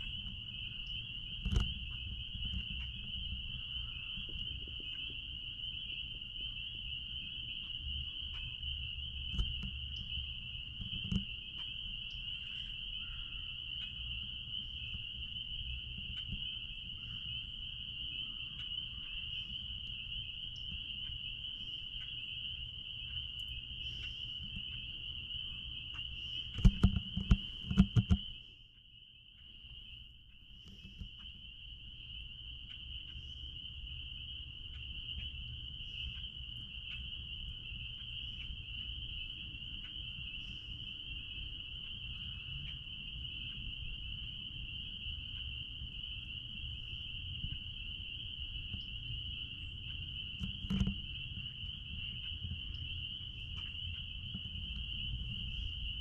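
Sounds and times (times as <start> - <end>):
frogs peeping chorus: 0.0 - 56.0.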